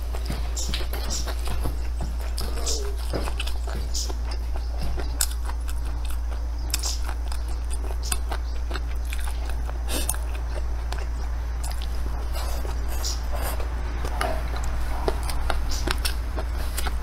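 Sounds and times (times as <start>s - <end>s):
low hum: 0.0s - 17.0s
person chewing: 0.0s - 17.0s.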